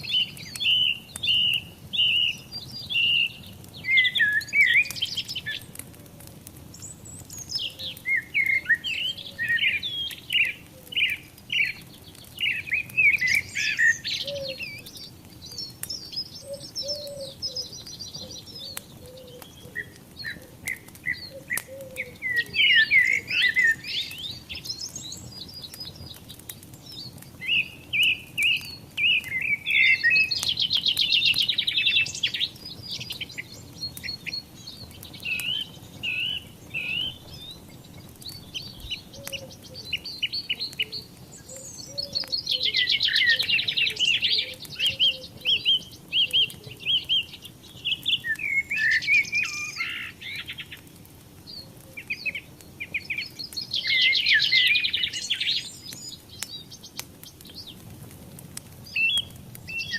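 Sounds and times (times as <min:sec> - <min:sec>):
songbirds singing: 0:00.0 - 0:59.9
wood fire crackling: 0:00.0 - 0:59.9.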